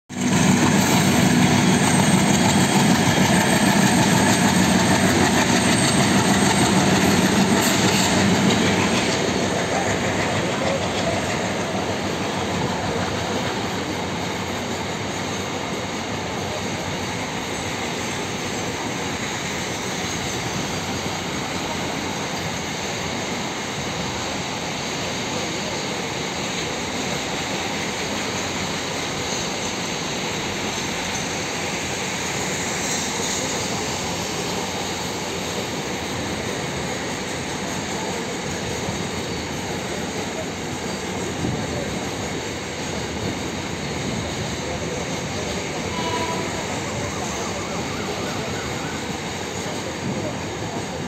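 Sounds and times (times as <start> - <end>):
diesel locomotive drone: 0.1 - 51.0
train wheels rolling on rails: 0.1 - 51.0.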